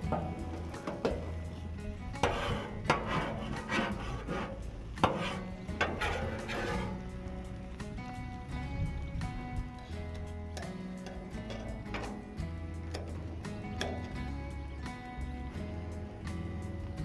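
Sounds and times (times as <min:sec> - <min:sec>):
background music: 0:00.0 - 0:17.0
metal spatula scraping griddle: 0:00.1 - 0:07.8, 0:09.8 - 0:16.1.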